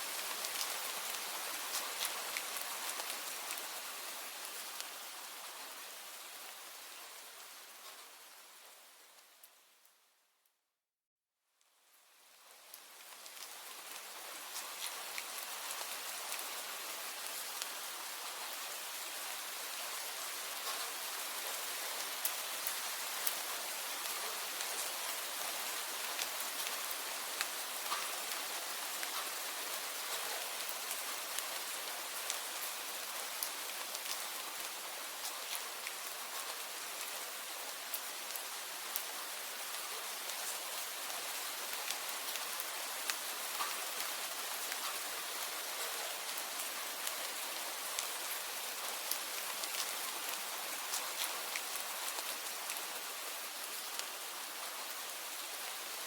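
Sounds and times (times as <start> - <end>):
steady rain hiss: 0.0 - 10.4, 11.6 - 56.0.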